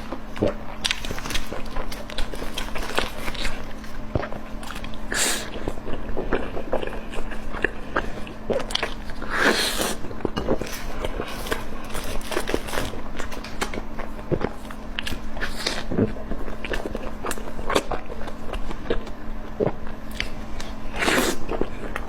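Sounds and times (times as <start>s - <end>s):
faint steady hum: 0.0s - 22.0s
person chewing food: 0.0s - 22.0s.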